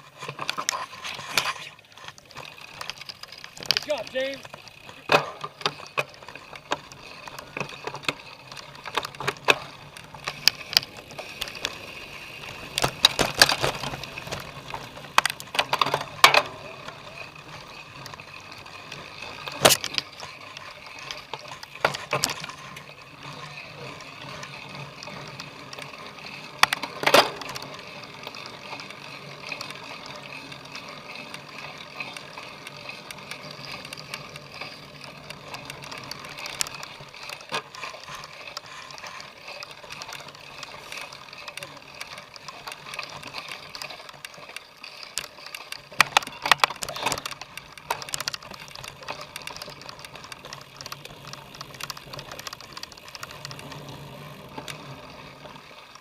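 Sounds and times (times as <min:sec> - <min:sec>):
bike rattling and knocking: 0:00.0 - 0:56.0
drivetrain and tyre noise: 0:00.0 - 0:56.0.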